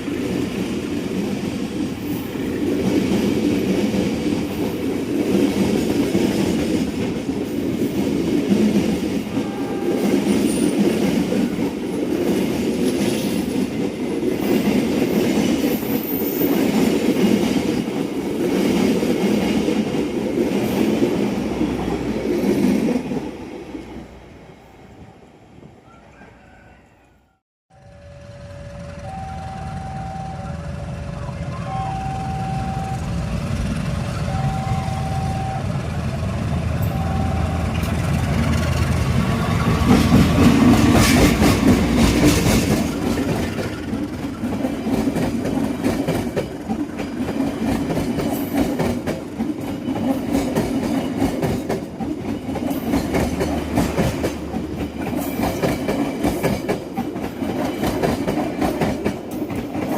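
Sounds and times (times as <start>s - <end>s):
train wheels rumbling on track: 0.0s - 26.3s, 27.8s - 59.9s.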